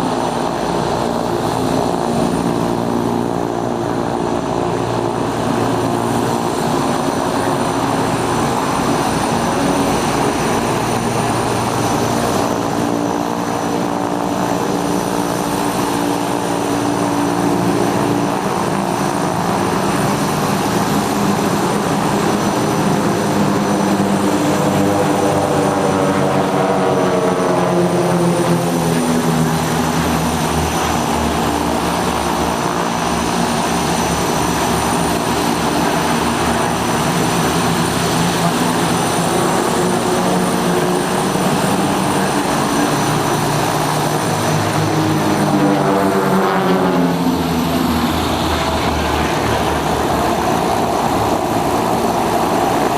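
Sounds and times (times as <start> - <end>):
propeller aircraft engine droning: 0.0 - 52.9.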